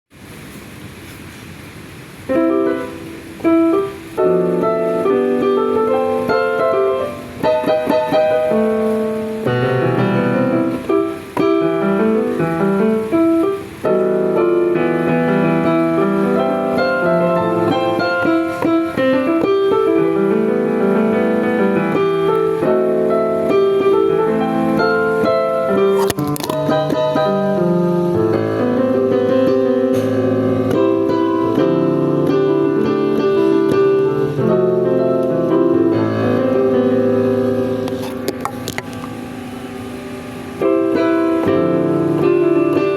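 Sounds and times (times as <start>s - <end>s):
solo piano melody: 0.1s - 42.9s.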